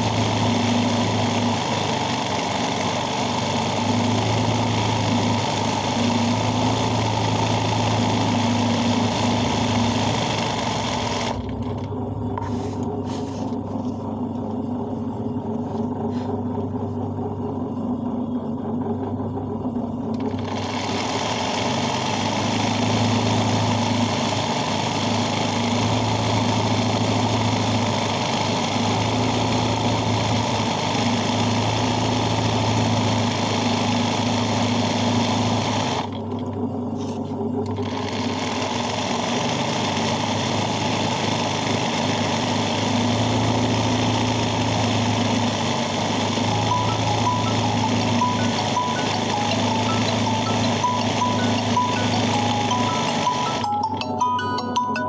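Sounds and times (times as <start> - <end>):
sewing machine running: 0.0 - 12.0, 18.6 - 36.4, 37.6 - 53.9.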